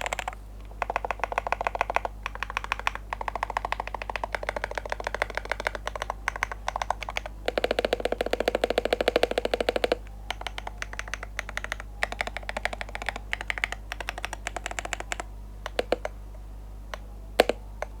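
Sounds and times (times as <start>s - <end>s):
keyboard typing: 0.0s - 16.2s, 16.9s - 18.0s.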